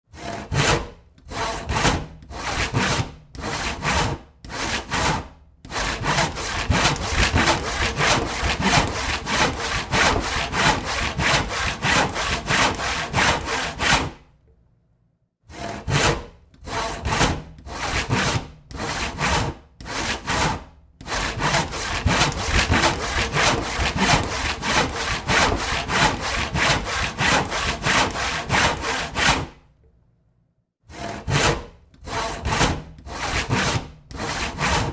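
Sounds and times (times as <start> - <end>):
hand saw cutting wood: 0.1 - 14.2, 15.5 - 29.6, 30.9 - 34.9.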